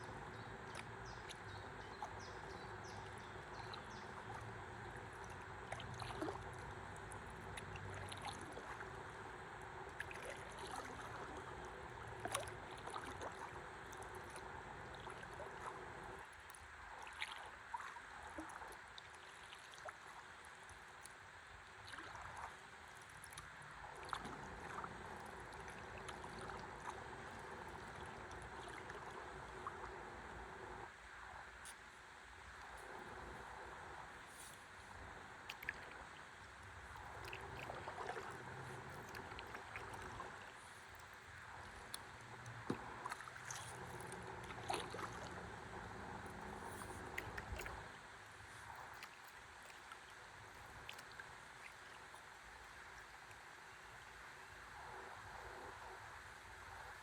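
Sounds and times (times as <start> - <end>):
small splashes: 0.0 - 30.2, 34.2 - 53.6
river water flowing and lapping: 0.0 - 57.0.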